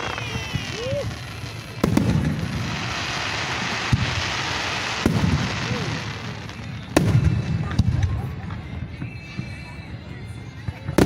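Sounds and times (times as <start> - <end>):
firework bangs: 0.0 - 9.6
fireworks rumble and hiss: 0.0 - 11.0.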